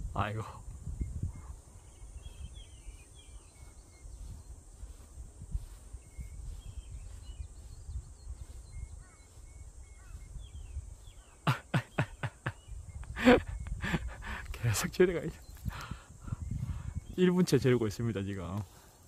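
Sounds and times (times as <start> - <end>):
wind buffeting microphone: 0.0 - 18.8
small birds chirping: 0.0 - 19.0.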